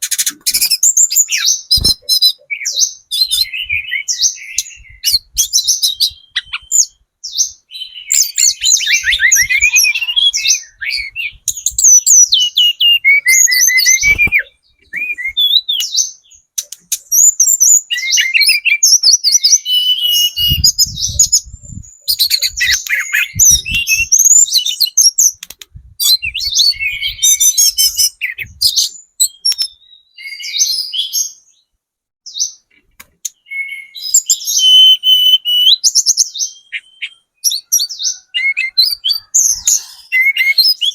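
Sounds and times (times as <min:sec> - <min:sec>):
small bird chirping and trilling: 0:00.0 - 0:31.7, 0:32.3 - 0:40.9.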